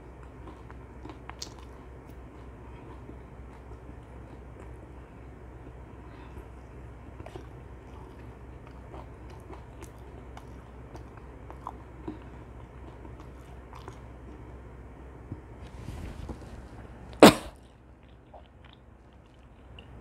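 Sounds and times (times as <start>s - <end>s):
chewing fried chicken: 0.0s - 20.0s
steady low hum: 0.0s - 20.0s.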